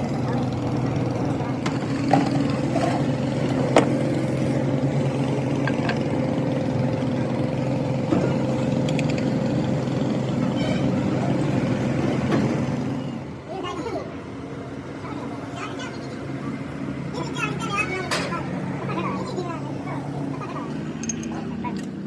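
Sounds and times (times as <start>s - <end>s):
metal lathe humming: 0.0s - 22.0s.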